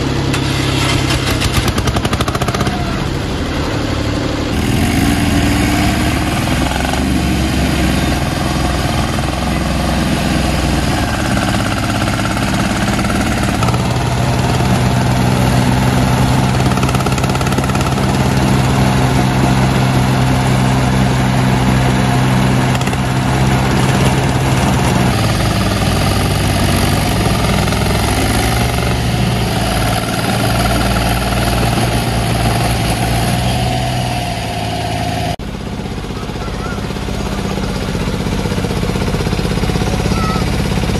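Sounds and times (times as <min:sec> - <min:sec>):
diesel tractor engines running: 0:00.0 - 0:40.9.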